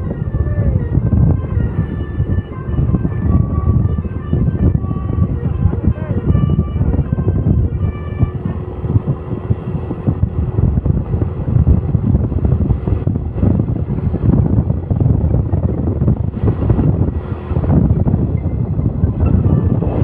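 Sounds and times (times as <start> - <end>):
faint engine hum: 0.0 - 20.0
road traffic rumble: 0.0 - 20.0
wind buffeting microphone: 0.0 - 20.0.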